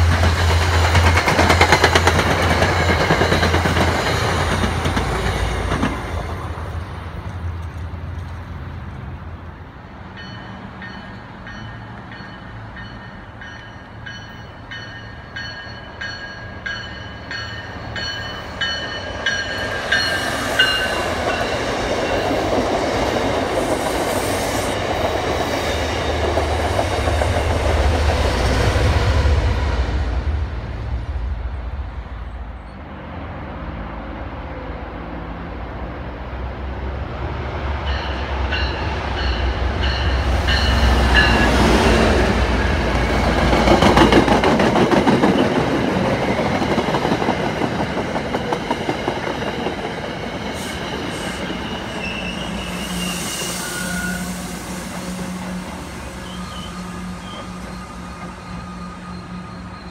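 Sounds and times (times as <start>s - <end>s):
train wheels clattering on rails: 0.0s - 8.6s, 10.2s - 29.4s, 37.8s - 59.9s.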